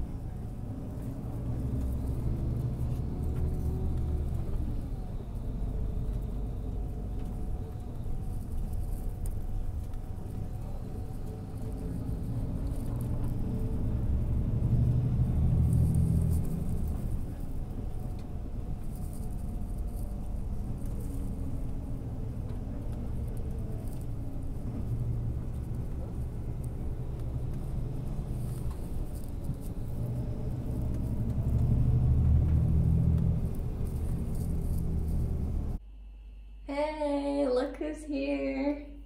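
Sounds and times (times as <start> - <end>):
bus engine and road rumble: 0.0 - 35.8.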